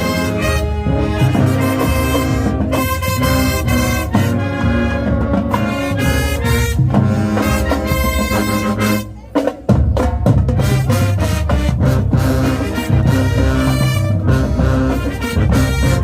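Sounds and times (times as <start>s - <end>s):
marching band brass and drums: 0.0s - 16.0s.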